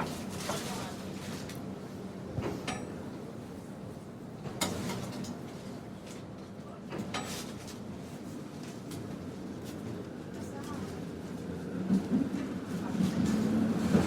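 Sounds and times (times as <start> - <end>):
streetcar rumble and hum: 0.0 - 14.0.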